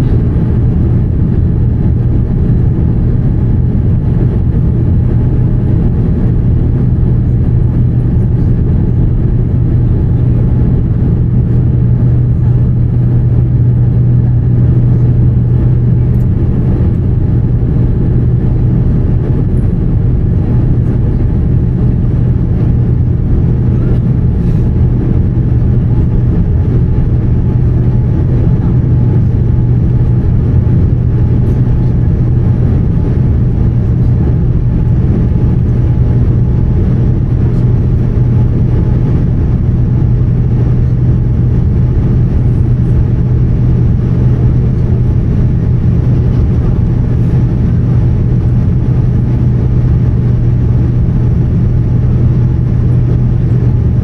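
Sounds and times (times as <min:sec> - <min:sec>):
airflow over fuselage: 0:00.0 - 0:54.0
jet engines rumbling in cabin: 0:00.0 - 0:54.0
steady low hum: 0:00.0 - 0:54.0.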